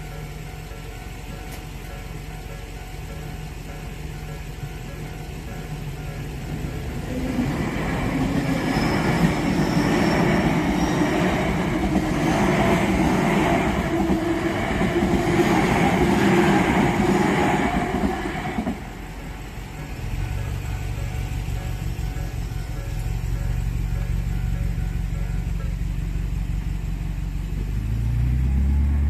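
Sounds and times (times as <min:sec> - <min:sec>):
level crossing warning bells: 0:00.0 - 0:27.6
electric train passing: 0:00.0 - 0:29.0.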